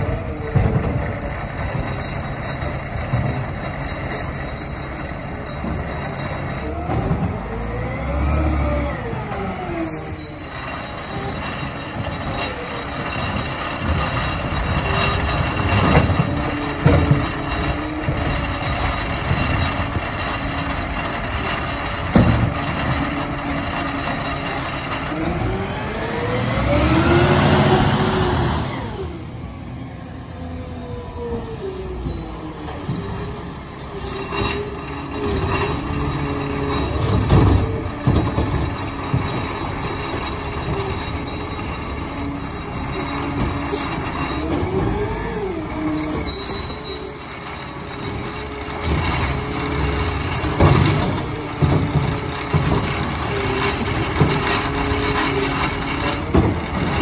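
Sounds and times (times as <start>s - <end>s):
diesel engine revving: 5.2s - 57.0s.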